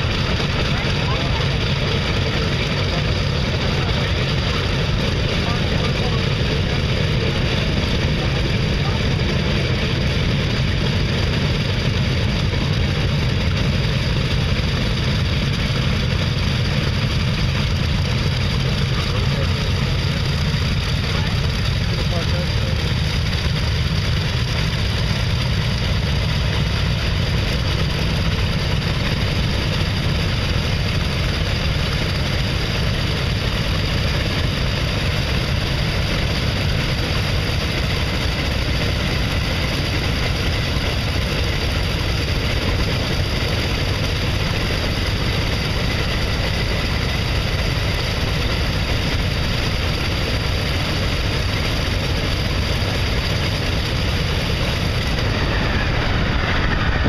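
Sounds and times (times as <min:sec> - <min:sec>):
propeller aircraft engines idling: 0:00.0 - 0:57.0.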